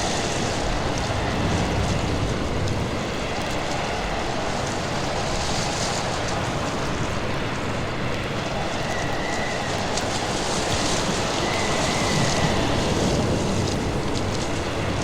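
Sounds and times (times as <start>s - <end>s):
wind and heavy water roaring: 0.0s - 15.0s.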